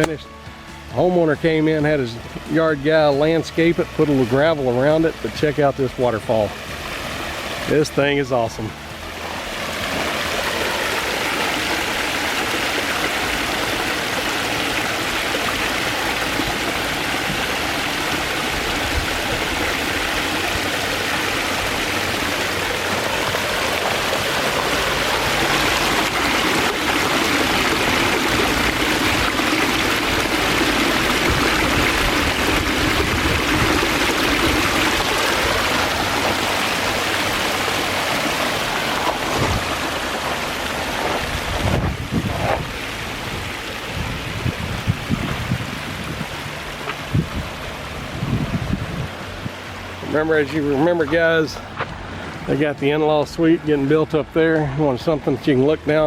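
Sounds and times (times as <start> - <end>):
waterfall splashing: 0.0 - 56.0.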